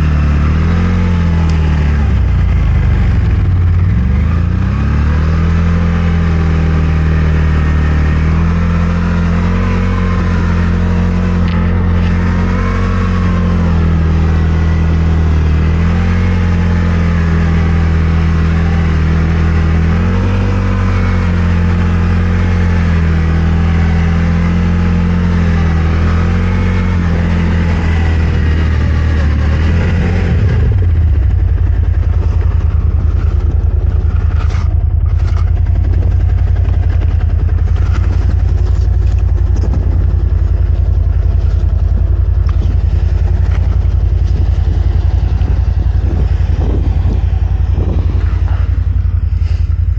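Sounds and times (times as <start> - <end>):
engine idling: 0.0 - 49.9
engine revving under load: 0.0 - 49.9.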